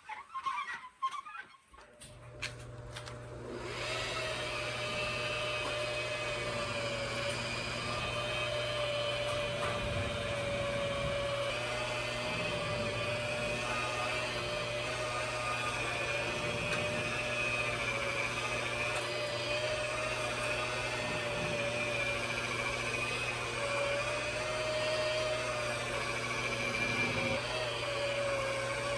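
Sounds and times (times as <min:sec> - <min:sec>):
electric buffer whining: 0:01.9 - 0:28.9.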